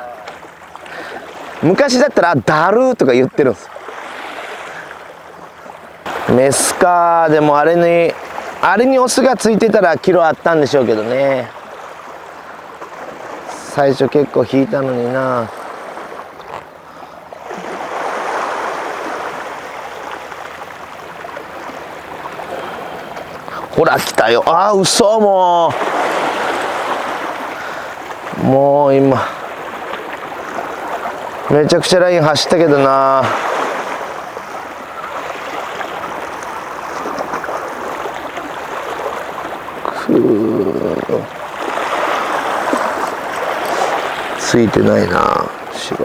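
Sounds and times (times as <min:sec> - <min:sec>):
sea water washing against shore: 0:00.0 - 0:46.0.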